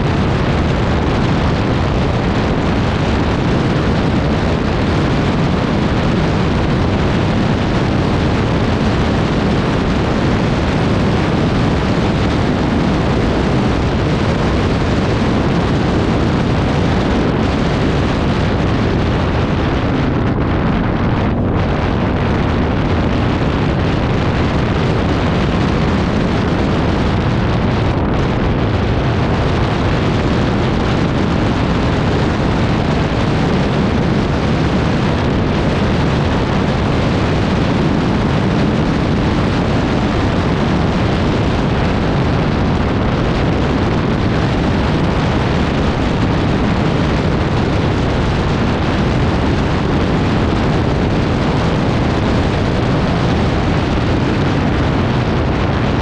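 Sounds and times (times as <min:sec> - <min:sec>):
engine rumbling roar: 0:00.0 - 0:56.0
wind buffeting microphone: 0:00.0 - 0:56.0.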